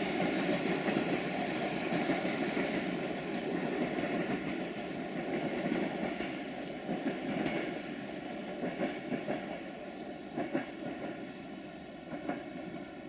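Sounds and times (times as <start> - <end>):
train rumbling on track: 0.0 - 13.0
train wheels clicking on rails: 0.0 - 13.0.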